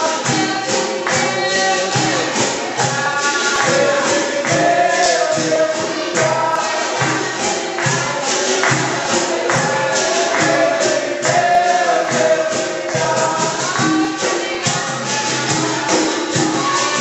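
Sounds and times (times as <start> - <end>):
group singing chorus: 0.0 - 17.0
hand drum: 0.0 - 17.0
tambourine: 0.0 - 17.0.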